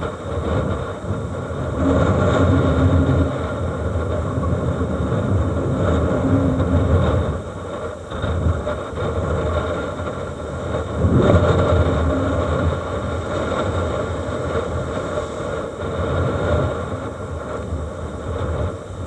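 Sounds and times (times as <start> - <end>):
rough sea: 0.0 - 19.0
storm wind buffeting microphone: 0.0 - 19.0.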